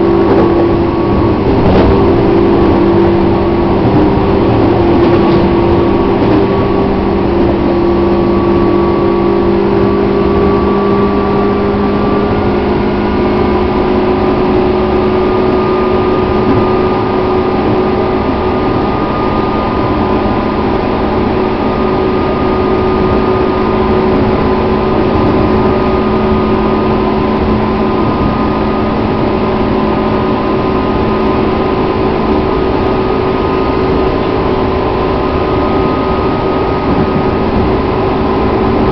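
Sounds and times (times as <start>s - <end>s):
held hum tones: 0.0s - 38.9s
train rumbling: 0.0s - 38.9s.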